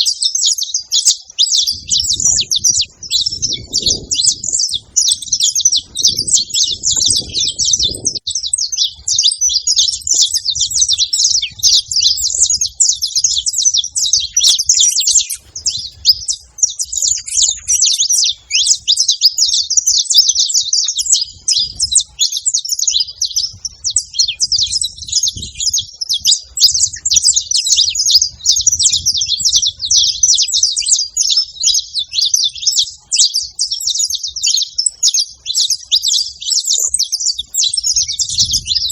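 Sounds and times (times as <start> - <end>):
finches chirping and singing: 0.0 - 38.9.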